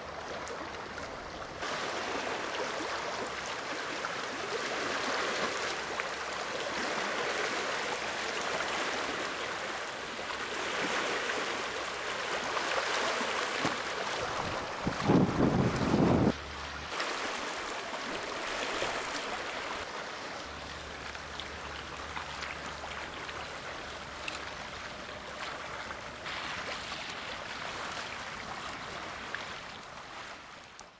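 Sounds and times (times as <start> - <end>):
running water rushing: 0.0 - 30.9.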